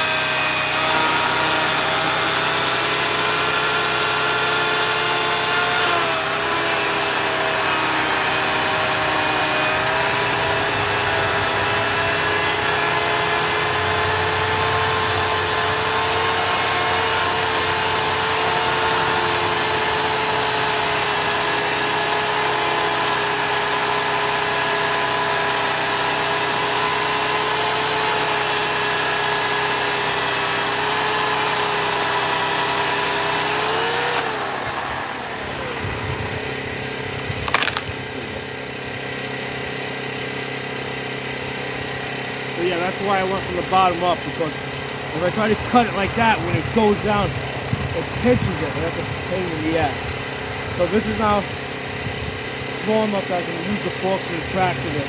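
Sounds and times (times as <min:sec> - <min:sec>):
electric chainsaw cutting log: 0:00.0 - 0:55.0.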